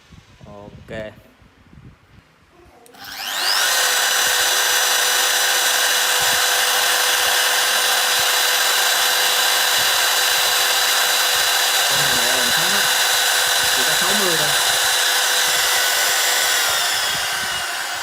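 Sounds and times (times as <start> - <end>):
power tool motor whining: 2.9 - 18.0.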